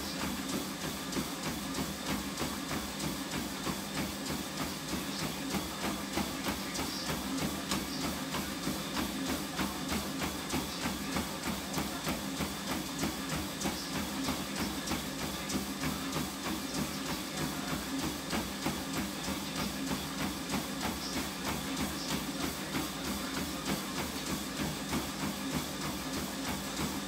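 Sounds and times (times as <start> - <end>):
running footfalls on treadmill: 0.0 - 27.0
treadmill motor hum: 0.0 - 27.0.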